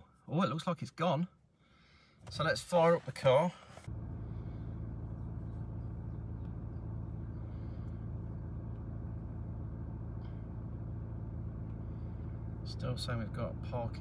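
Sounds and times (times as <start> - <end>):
car engine idling: 1.4 - 14.0.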